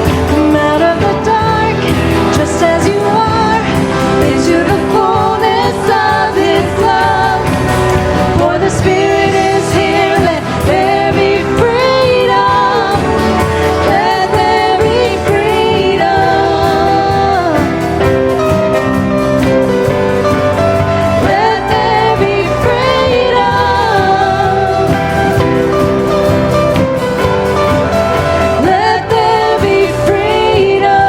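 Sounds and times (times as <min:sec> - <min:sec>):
voices singing worship song: 0:00.0 - 0:19.2, 0:19.8 - 0:31.0
full band playing: 0:00.0 - 0:31.0.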